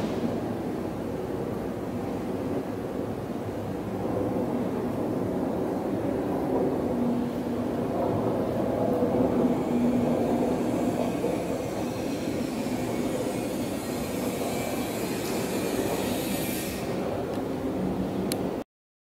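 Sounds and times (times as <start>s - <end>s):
machinery rumbling and hissing: 0.0s - 18.6s.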